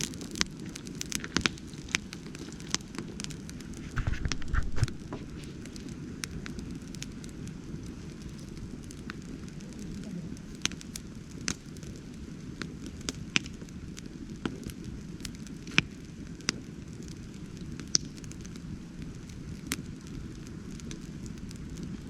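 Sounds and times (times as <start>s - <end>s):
burning wood popping and crackling: 0.0s - 22.0s
low rush of flame: 0.0s - 22.0s.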